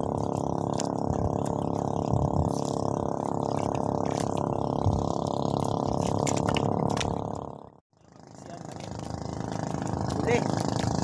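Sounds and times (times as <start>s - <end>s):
water sloshing and dripping: 0.0s - 7.5s, 8.6s - 11.0s
steady low hum: 0.0s - 11.0s.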